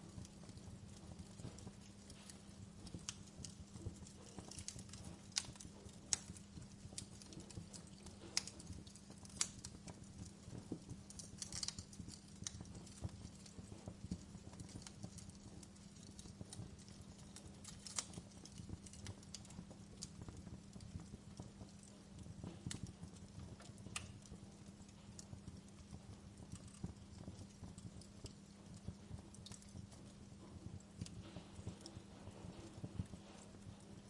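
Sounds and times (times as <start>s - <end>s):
burning logs popping and snapping: 0.0s - 34.0s
low rumble of flames: 0.0s - 34.0s.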